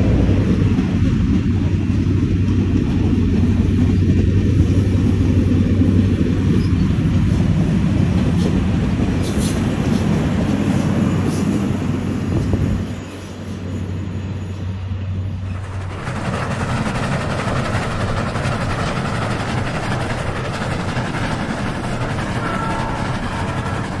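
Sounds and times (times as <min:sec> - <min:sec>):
train clatter: 0:00.0 - 0:14.1, 0:14.7 - 0:24.0
train wheels rumbling on rails: 0:00.0 - 0:24.0.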